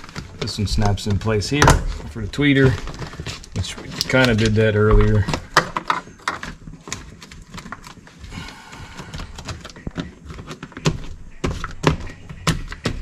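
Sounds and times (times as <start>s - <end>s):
plastic sheet rustling: 0.0s - 13.0s.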